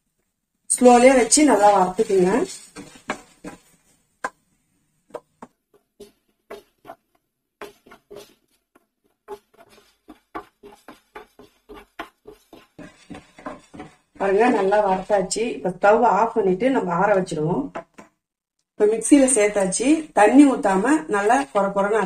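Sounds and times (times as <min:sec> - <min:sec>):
wooden spatula scraping a pan: 0:00.7 - 0:18.0, 0:18.8 - 0:22.0.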